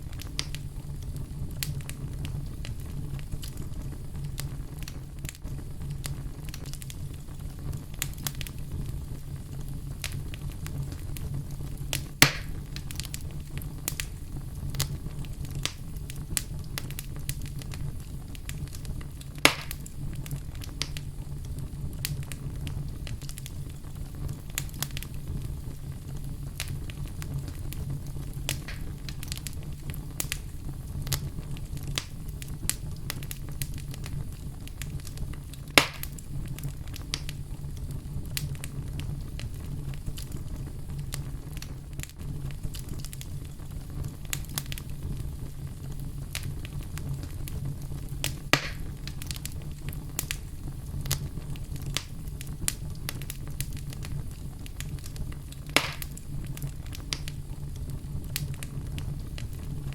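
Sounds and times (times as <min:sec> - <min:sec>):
fire pops: 0:00.0 - 0:59.9
wood fire crackling: 0:00.0 - 0:59.9.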